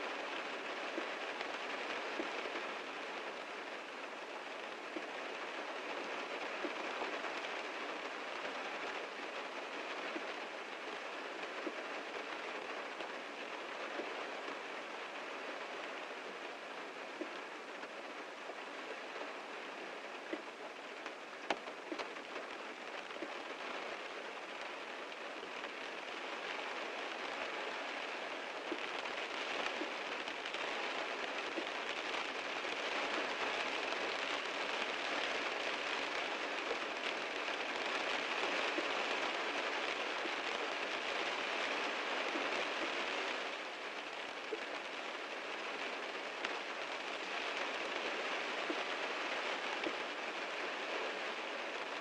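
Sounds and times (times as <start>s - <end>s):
heavy rain on a car: 0.0s - 52.0s
raindrops ticking on car body: 0.1s - 52.0s.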